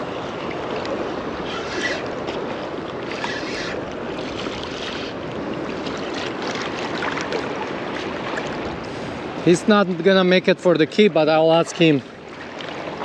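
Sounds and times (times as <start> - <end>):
seawater sloshing and lapping: 0.0 - 10.2, 11.3 - 13.0
wind: 0.0 - 13.0.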